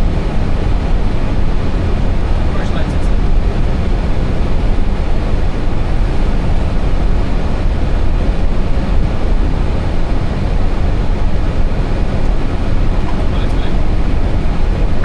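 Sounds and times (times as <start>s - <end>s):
cockpit airflow and engine rumble: 0.0s - 15.0s.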